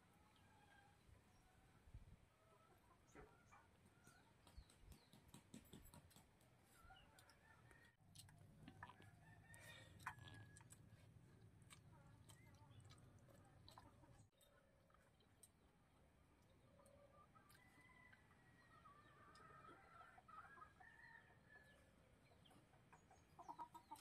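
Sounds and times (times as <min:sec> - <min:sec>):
faint chickens clucking: 0:02.2 - 0:24.0.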